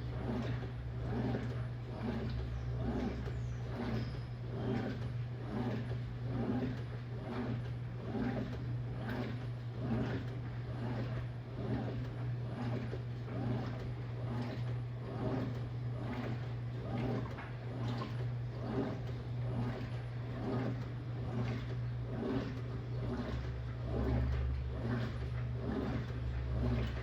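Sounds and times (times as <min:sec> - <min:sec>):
washing machine motor hum: 0:00.0 - 0:27.0
water and clothes sloshing: 0:00.0 - 0:27.0.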